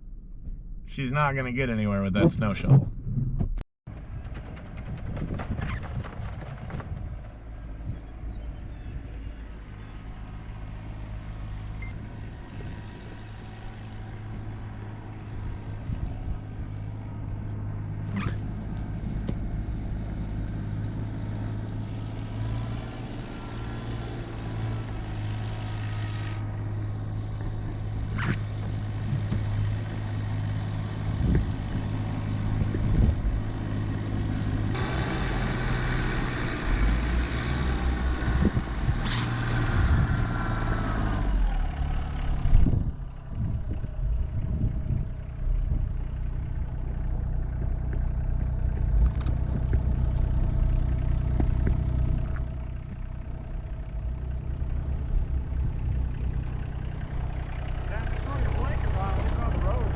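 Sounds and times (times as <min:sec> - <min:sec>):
vehicle engine idling: 0:04.0 - 0:59.9.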